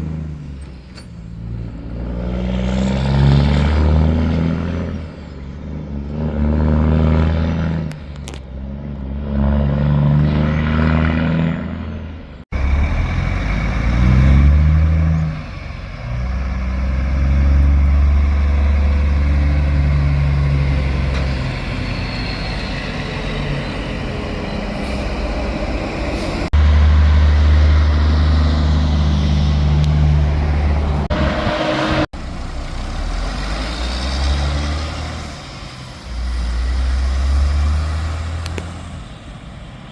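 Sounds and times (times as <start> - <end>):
diesel truck engines: 0.0 - 39.9.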